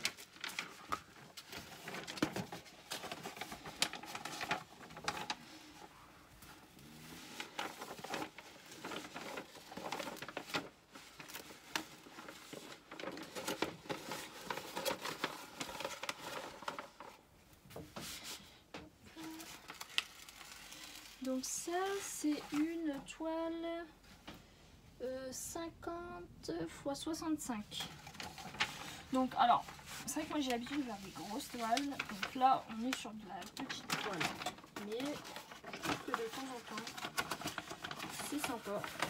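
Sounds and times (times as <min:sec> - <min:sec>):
plastic film and paper crinkling: 0:00.0 - 0:24.2, 0:27.2 - 0:39.0.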